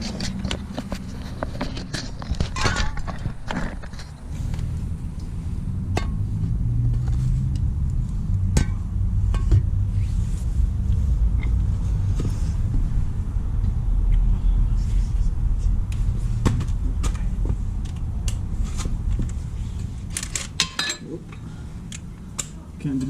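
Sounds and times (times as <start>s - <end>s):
low rumble: 2.1s - 20.6s.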